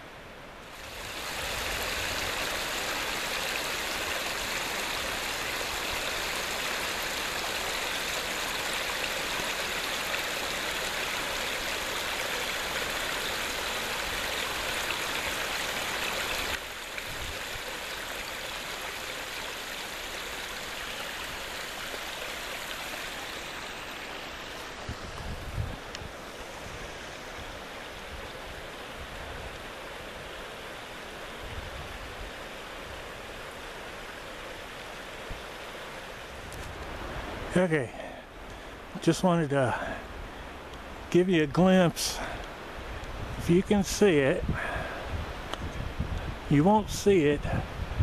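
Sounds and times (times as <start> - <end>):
stream running over rocks: 0.1 - 48.0.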